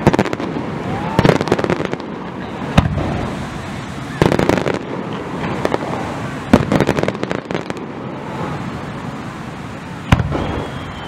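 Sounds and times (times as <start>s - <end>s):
firework shells booming: 0.0s - 8.6s, 10.0s - 11.0s
firework whistle: 0.0s - 9.1s, 9.8s - 11.0s
firework crackling: 0.0s - 11.0s.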